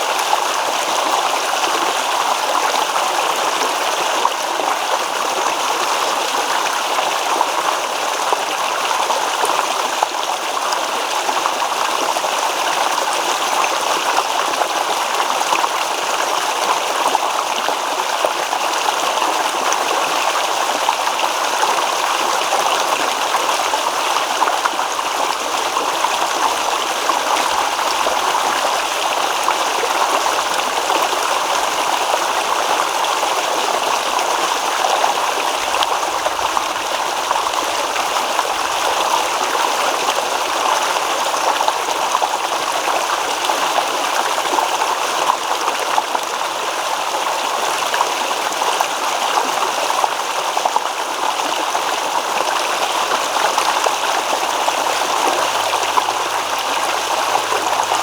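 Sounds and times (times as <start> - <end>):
stream water rippling over stones: 0.0 - 58.0.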